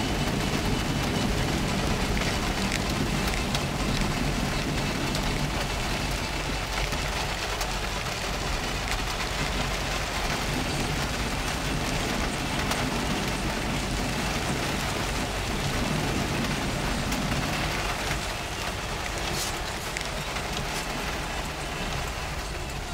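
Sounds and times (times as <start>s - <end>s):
car rumble: 0.0s - 22.9s
heavy rain on car roof: 0.0s - 22.9s.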